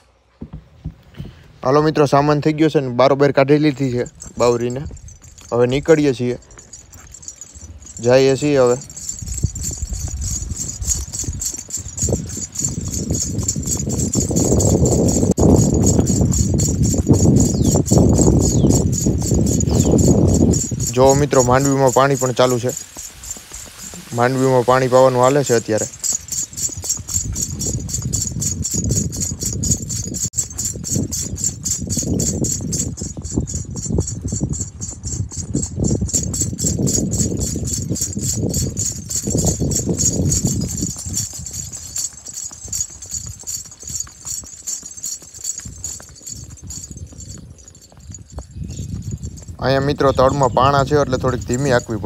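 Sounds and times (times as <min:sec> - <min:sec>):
hoofbeats on dirt track: 0:00.0 - 0:02.5, 0:03.3 - 0:52.0
tack jingling: 0:03.6 - 0:52.0.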